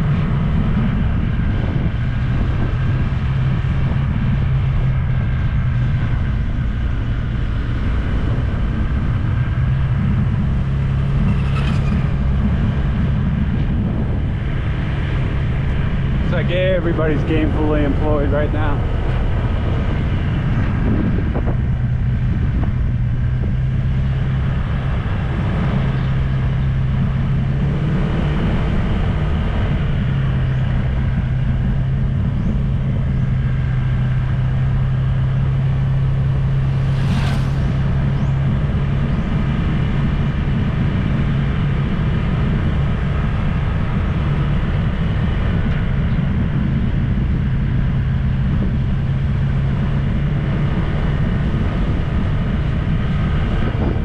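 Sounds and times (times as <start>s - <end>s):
road and wind noise: 0.0s - 54.0s
vehicle engine humming: 0.0s - 54.0s.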